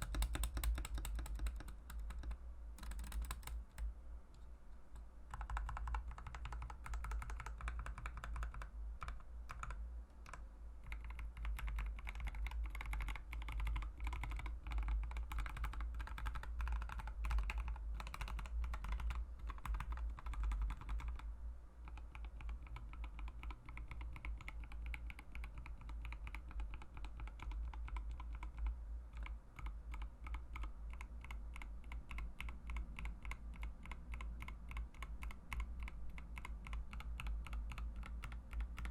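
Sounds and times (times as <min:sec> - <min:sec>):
mechanical keyboard typing: 0:00.0 - 0:03.9, 0:04.9 - 0:38.9
steady low hum: 0:00.0 - 0:38.9.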